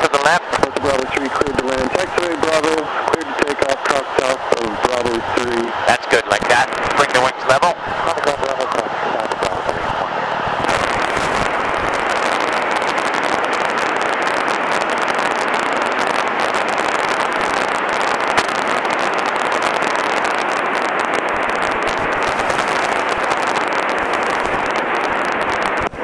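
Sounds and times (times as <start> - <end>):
airplane engine drone through headset: 0.0 - 26.0.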